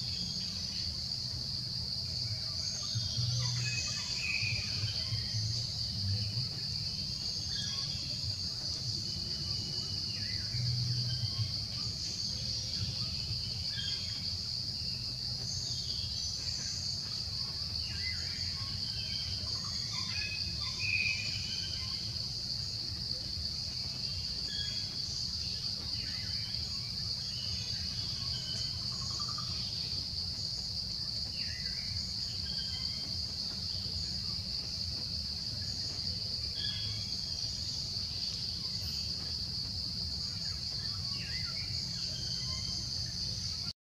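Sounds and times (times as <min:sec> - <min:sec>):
insects droning: 0:00.0 - 0:43.7.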